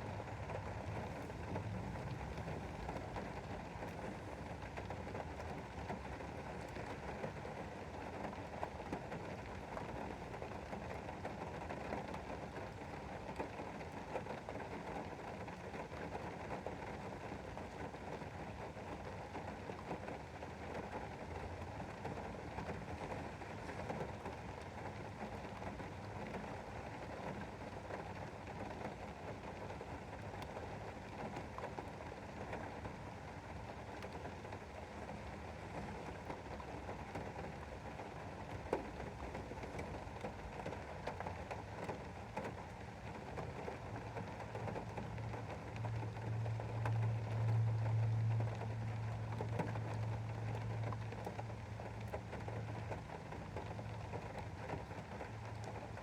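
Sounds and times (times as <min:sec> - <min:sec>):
rain pattering on a window: 0:00.0 - 0:56.0.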